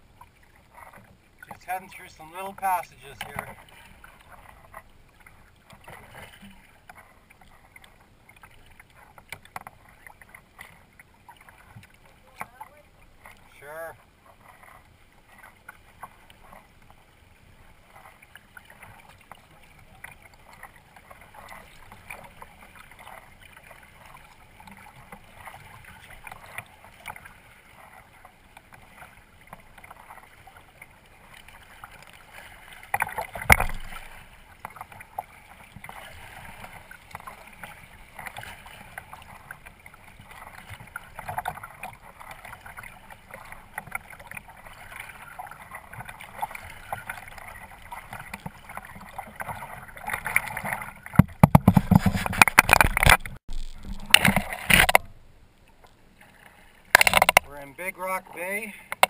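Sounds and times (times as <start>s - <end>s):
paddle splashing in water: 0.0s - 59.0s
water lapping: 0.0s - 59.0s.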